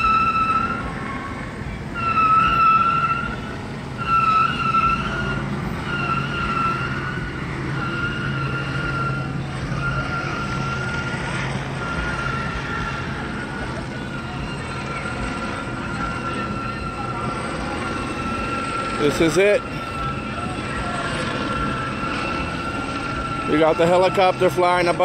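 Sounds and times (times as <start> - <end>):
siren held tone: 0.0 - 25.0.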